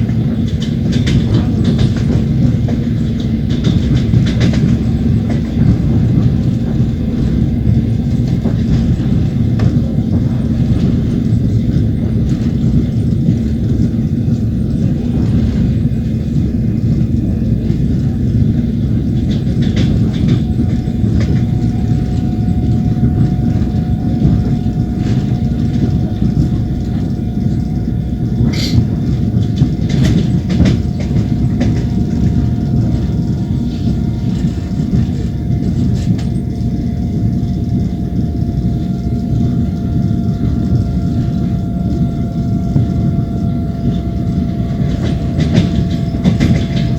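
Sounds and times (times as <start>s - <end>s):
train wheels rumbling on rails: 0.0s - 46.9s
wheels clacking over rail joints: 0.0s - 46.9s.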